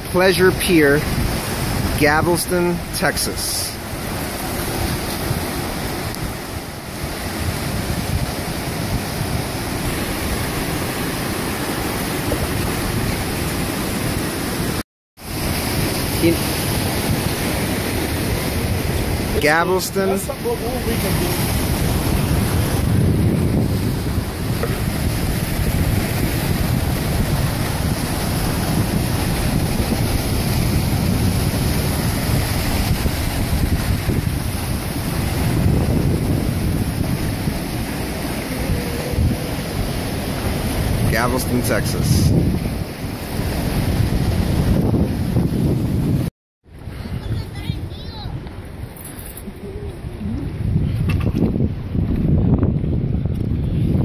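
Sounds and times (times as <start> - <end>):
surf breaking and washing in: 0.0 - 54.0
wind rumbling on microphone: 0.0 - 54.0.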